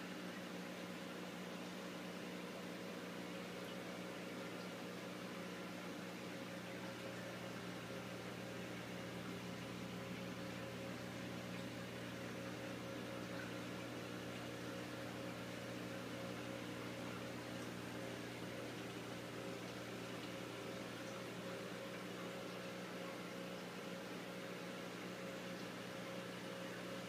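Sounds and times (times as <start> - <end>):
aquarium pump humming: 0.0 - 27.0.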